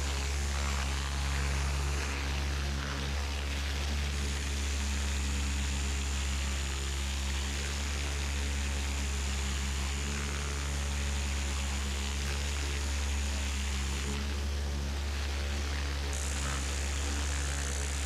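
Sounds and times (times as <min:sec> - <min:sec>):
electric motor hum: 0:00.0 - 0:18.0.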